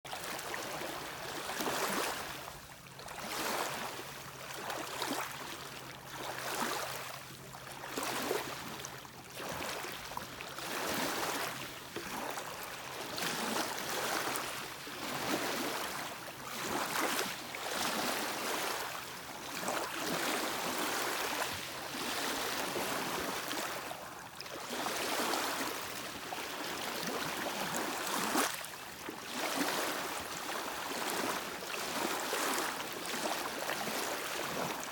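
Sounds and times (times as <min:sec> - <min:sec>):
waves lapping against shore: 0:00.1 - 0:34.9.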